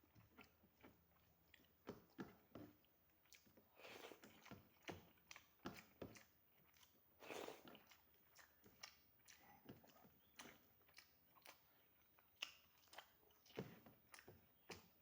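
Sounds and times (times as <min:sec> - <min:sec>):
person chewing food: 0:00.1 - 0:15.0.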